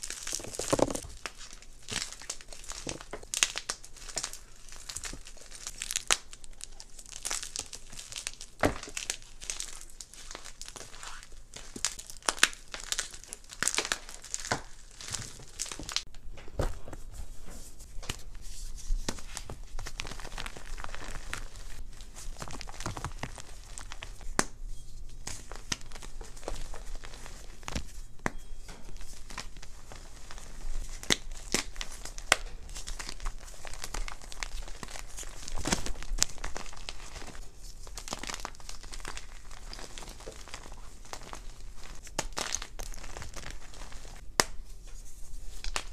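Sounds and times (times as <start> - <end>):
chalk crunching and crackling: 0.0 - 16.1, 16.7 - 45.9.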